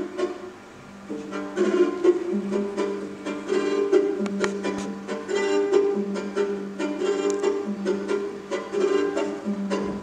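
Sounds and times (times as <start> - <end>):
plucked lute notes: 0.0 - 10.0.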